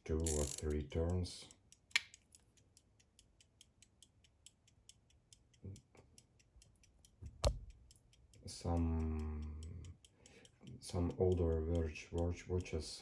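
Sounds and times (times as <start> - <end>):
pocket watch ticking: 0.0 - 13.0.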